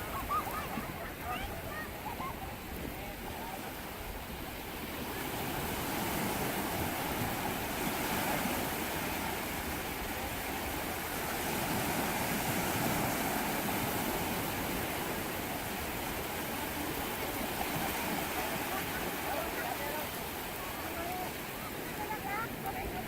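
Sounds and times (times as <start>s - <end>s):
sea waves on a beach: 0.0s - 23.0s.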